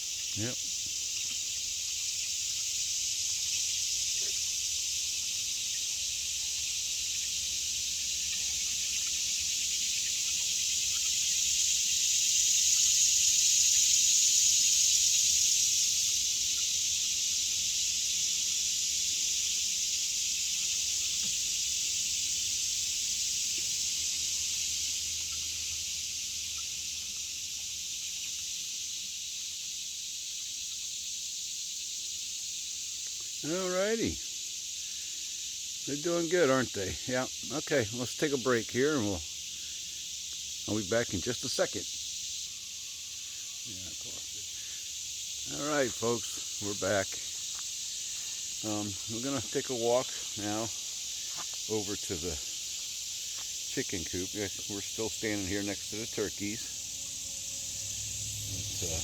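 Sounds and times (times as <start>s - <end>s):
insect chorus hiss: 0.0s - 59.0s.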